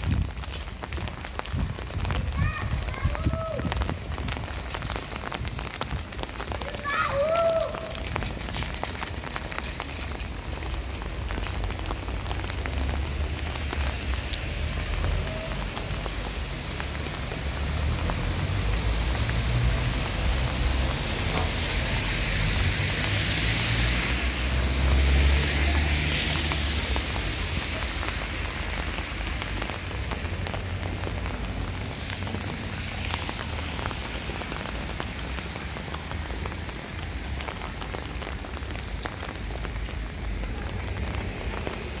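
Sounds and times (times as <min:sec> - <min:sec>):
rain on pavement: 0:00.0 - 0:42.0.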